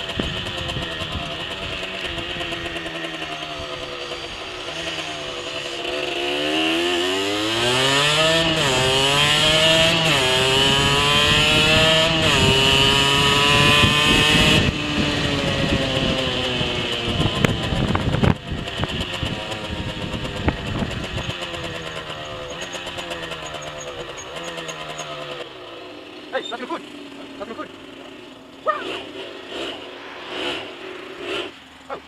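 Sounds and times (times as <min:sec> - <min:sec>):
moped engine accelerating: 0:00.0 - 0:32.0.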